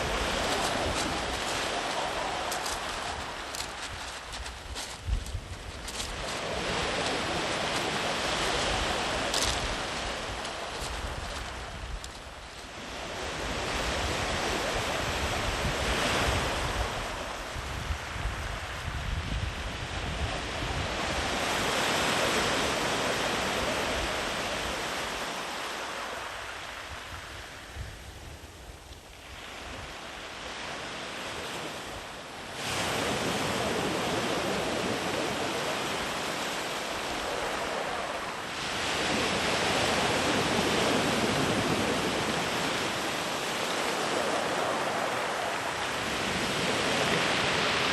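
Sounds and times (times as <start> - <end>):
sea waves breaking on beach: 0.0 - 27.7, 29.0 - 47.9.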